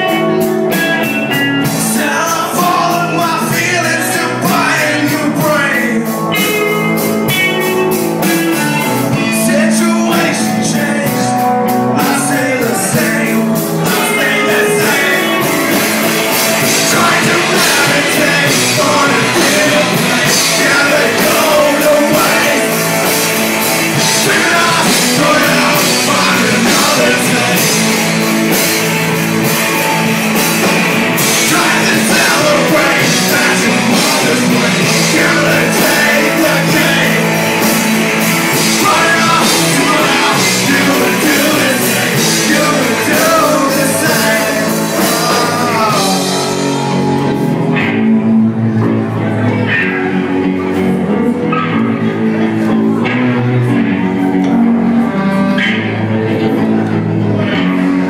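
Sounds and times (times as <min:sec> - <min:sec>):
bass guitar: 0:00.0 - 0:58.0
drums: 0:00.0 - 0:58.0
electric guitars: 0:00.0 - 0:58.0.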